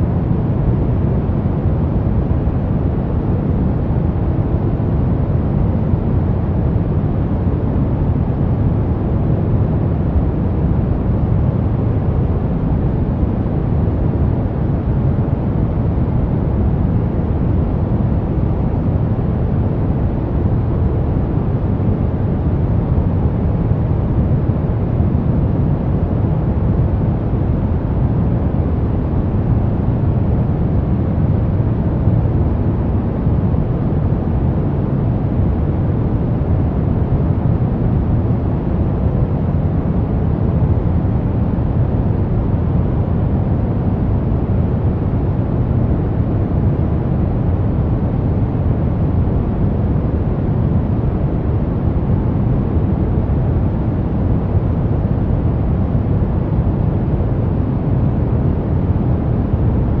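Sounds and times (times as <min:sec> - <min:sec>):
brown noise: 0:00.0 - 1:00.0.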